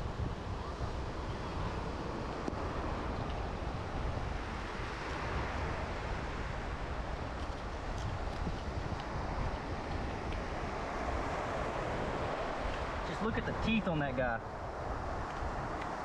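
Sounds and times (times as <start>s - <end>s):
strong wind buffeting microphone: 0.0s - 16.0s
surf washing: 0.0s - 16.0s.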